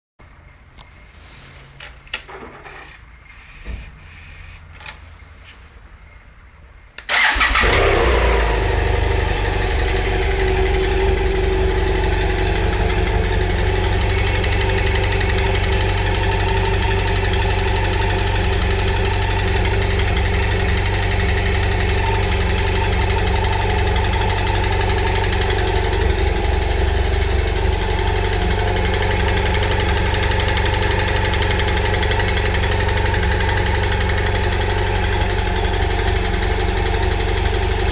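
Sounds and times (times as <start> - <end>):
motorcycle engine idling: 7.1 - 37.9.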